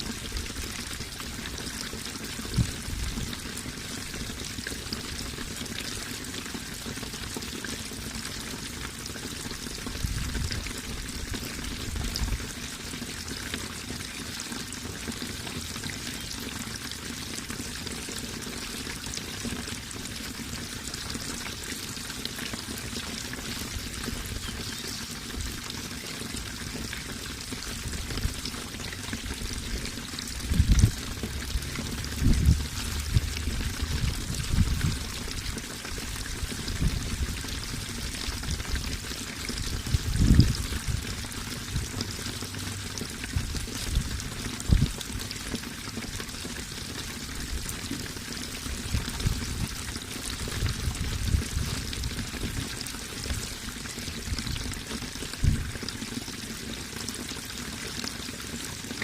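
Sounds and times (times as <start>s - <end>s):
running water pouring: 0.0s - 59.0s.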